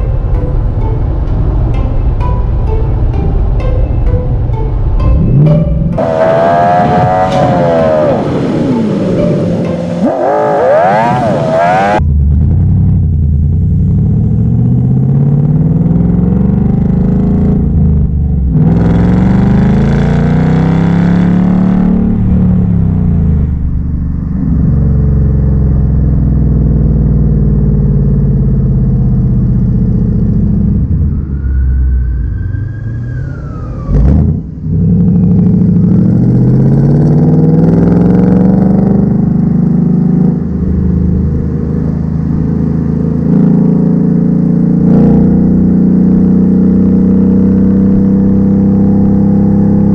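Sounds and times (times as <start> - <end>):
car engine accelerating through gears: 5.0 - 49.9.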